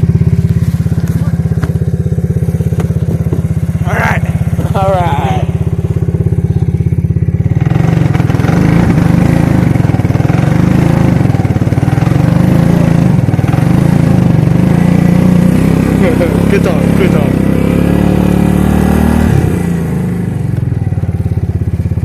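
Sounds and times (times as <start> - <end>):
quad bike engine: 0.0 - 22.0.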